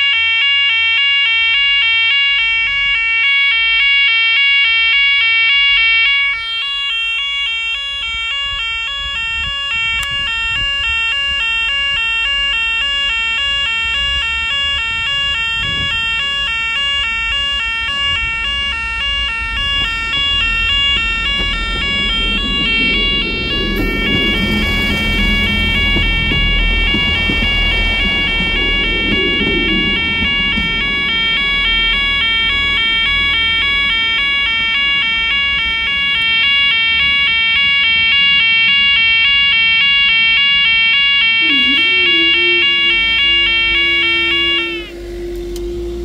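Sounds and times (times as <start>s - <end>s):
level crossing two-tone alarm: 0.0s - 46.0s
train low rumble: 4.6s - 46.0s.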